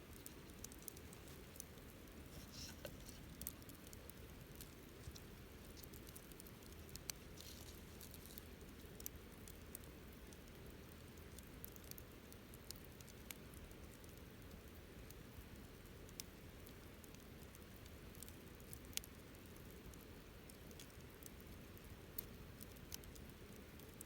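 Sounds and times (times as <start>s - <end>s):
low steady hiss: 0.0s - 24.0s
wood fire crackling: 0.0s - 24.0s.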